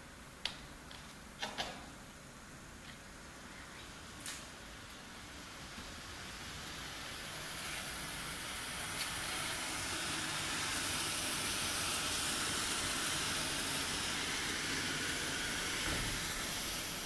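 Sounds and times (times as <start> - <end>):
cooling fans rushing hiss: 0.0 - 17.0.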